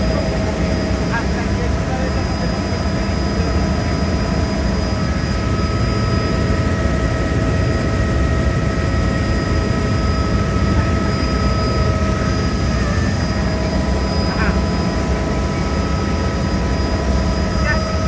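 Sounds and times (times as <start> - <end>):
helicopter engine and rotor rumble: 0.0 - 18.0.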